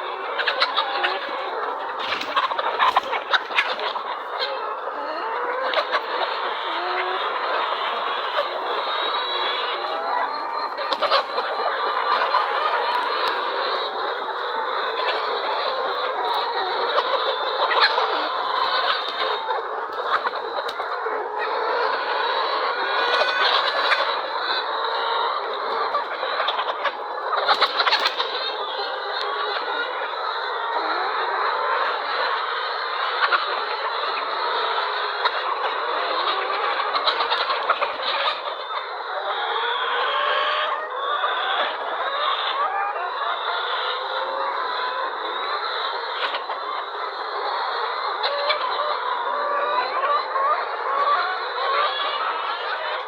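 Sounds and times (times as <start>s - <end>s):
poultry flock calling: 0.0s - 53.0s.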